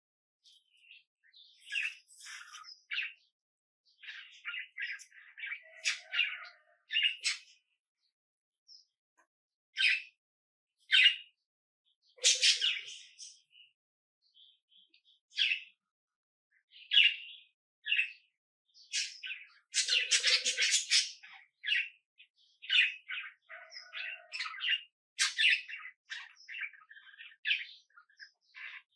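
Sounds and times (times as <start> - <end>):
small birds chirping: 0.0 - 10.2, 10.8 - 28.9.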